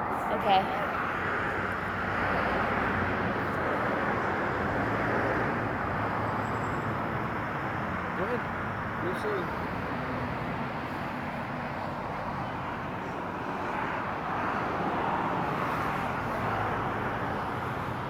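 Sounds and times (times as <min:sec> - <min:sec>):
passing vehicles rushing: 0:00.0 - 0:18.0.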